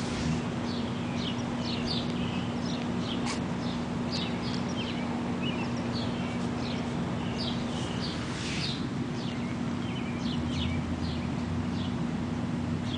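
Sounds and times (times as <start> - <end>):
small birds chirping: 0.0 - 12.9
steady low hum: 0.0 - 12.9.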